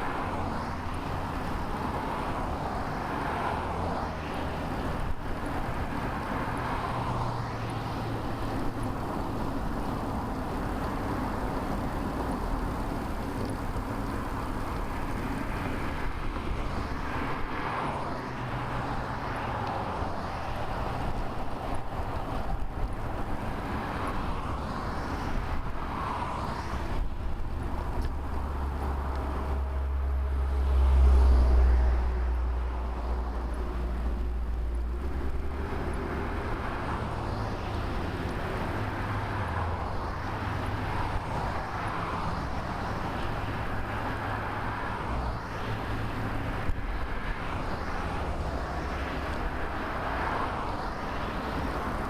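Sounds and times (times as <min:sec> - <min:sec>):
cars passing softly: 0:00.0 - 0:52.0.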